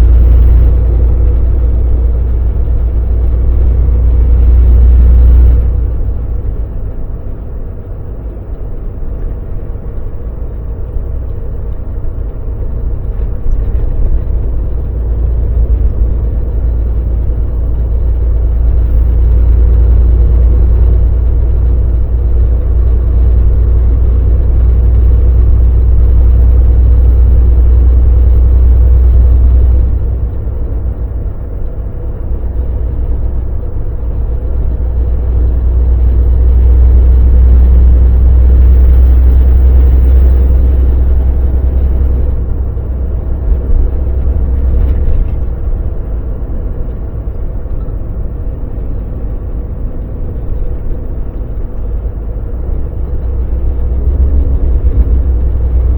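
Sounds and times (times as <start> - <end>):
truck engine and road drone: 0.0 - 55.9.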